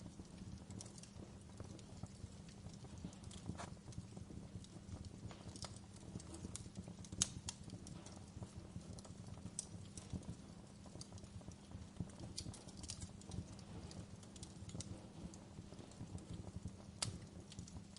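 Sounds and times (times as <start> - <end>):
wood fire crackling: 0.0 - 17.9.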